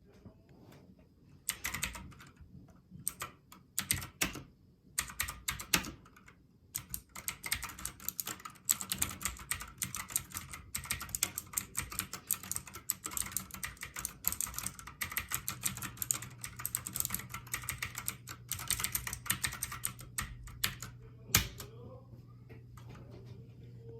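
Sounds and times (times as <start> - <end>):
fast keyboard typing: 1.5 - 2.4, 3.0 - 21.7.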